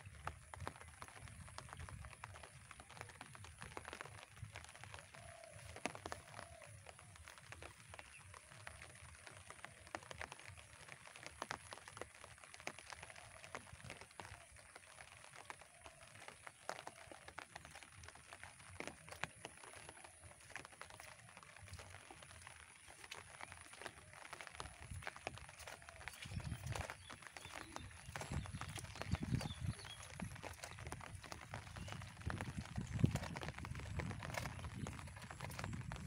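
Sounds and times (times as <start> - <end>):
footsteps on wet dirt: 0.0 - 36.0.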